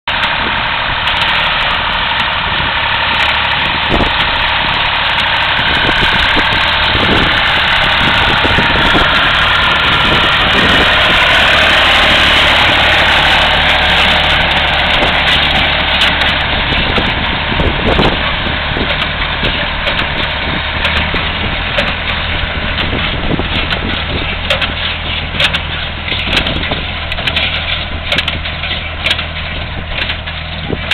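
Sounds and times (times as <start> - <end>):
baler engine drone: 0.0 - 30.9
machinery knocks and clatter: 0.1 - 30.9.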